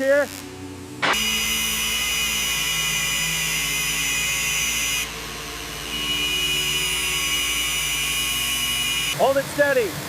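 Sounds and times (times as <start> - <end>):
power tool high-pitched whine: 1.0 - 10.0.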